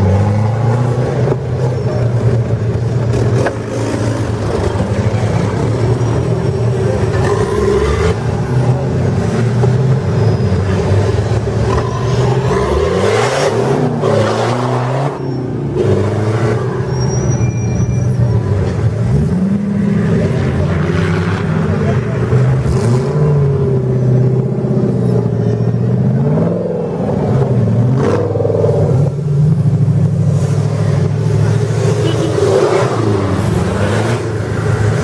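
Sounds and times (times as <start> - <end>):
off-road vehicle engine revving: 0.0 - 17.2, 18.1 - 35.0.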